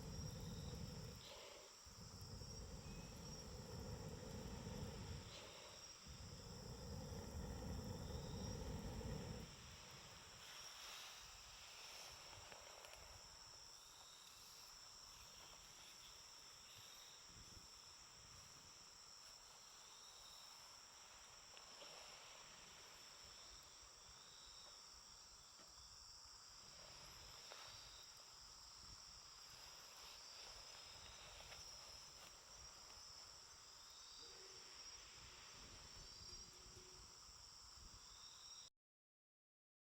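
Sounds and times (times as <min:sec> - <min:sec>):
crickets trilling: 0:00.0 - 0:38.7.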